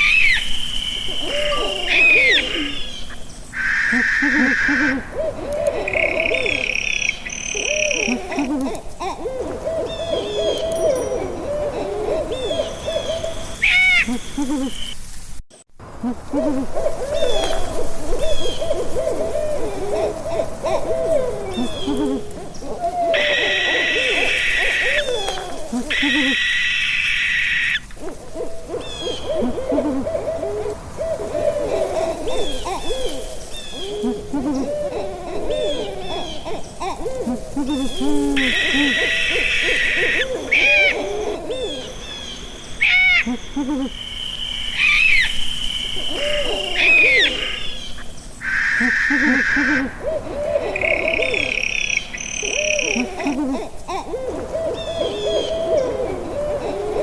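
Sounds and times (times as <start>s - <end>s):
higher-pitched owl calls: 0.0s - 15.0s, 16.0s - 57.0s
owls hooting: 0.0s - 15.0s, 16.0s - 57.0s.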